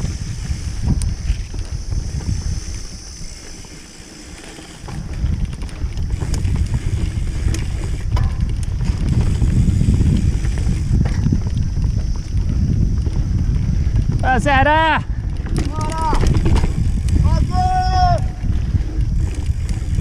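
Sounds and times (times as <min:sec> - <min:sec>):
bike clicking and rattling: 0:00.0 - 0:20.0
wind rumbling on microphone: 0:00.0 - 0:20.0.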